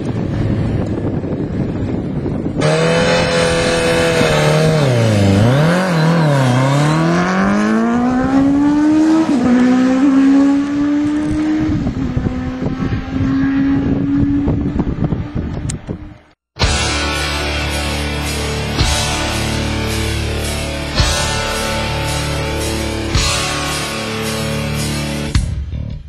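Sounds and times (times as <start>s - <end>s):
motorcycle engine revving: 0.0s - 25.3s.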